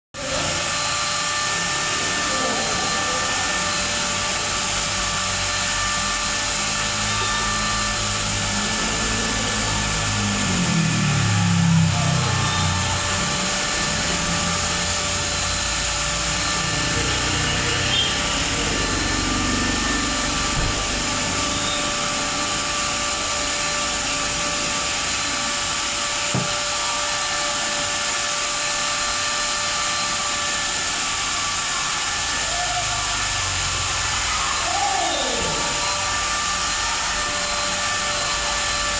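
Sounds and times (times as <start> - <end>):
small motor whining: 0.2 - 38.9.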